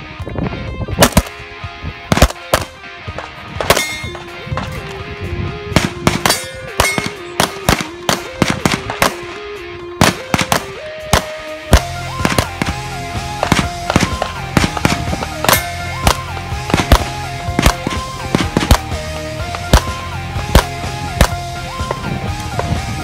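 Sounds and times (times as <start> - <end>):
background music: 0.0 - 23.0
pistol shots: 1.0 - 1.4, 2.1 - 4.8, 5.7 - 21.9.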